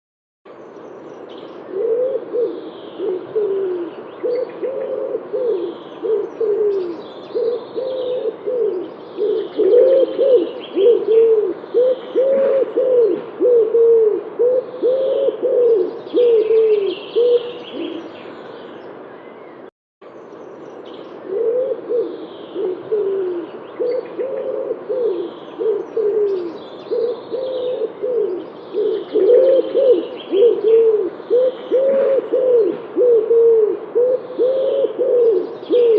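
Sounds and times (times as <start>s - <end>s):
pigeons cooing: 1.6s - 18.2s, 21.2s - 35.9s.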